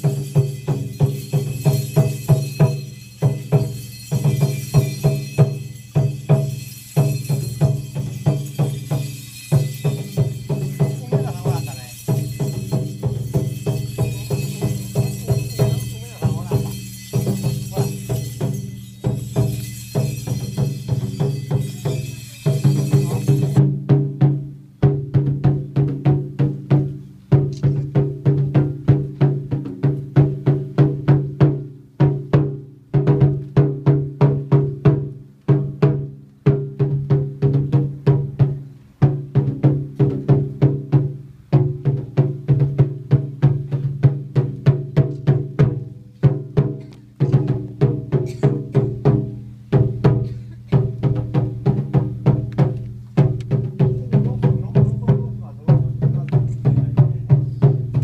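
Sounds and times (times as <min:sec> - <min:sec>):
taiko drum strokes: 0:00.0 - 0:58.0.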